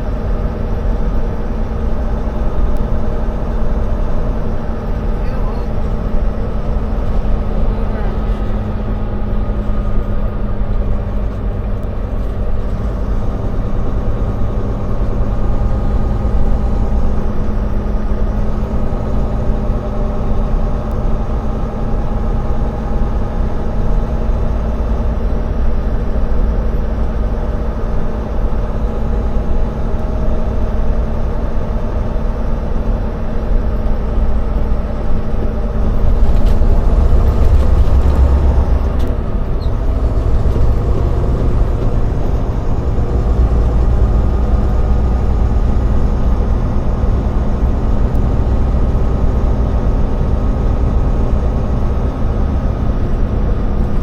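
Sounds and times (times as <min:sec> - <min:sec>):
constant hum: 0:00.0 - 0:54.0
road noise: 0:00.0 - 0:54.0
truck engine drone: 0:00.0 - 0:54.0.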